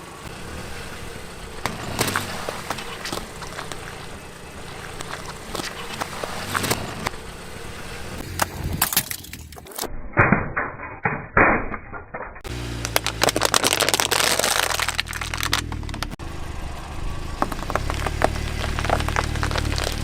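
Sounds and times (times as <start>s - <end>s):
car engine hum: 0.0s - 9.8s, 12.4s - 20.0s
objects crunching under car tyres: 0.3s - 7.2s, 7.8s - 9.9s, 11.8s - 16.2s, 17.2s - 20.0s.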